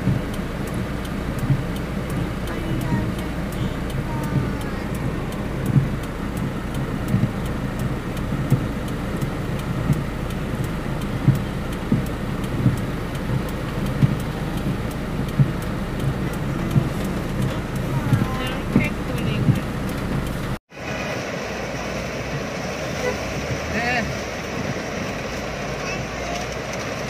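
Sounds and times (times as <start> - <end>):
car low rumble: 0.0 - 27.0
windshield wipers thumping: 0.0 - 27.0.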